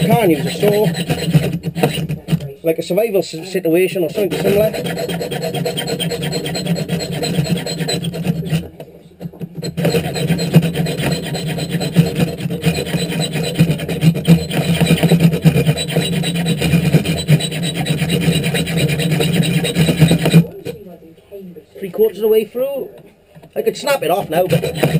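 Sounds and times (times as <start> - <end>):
file rasping on steel bolt: 0.0 - 2.5, 4.0 - 20.6, 23.8 - 24.9.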